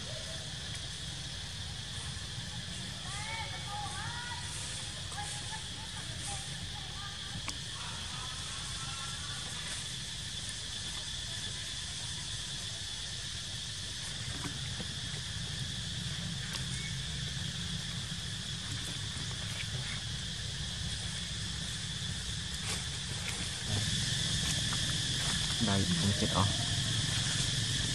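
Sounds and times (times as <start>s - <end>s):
high-pitched insect drone: 0.0s - 27.9s.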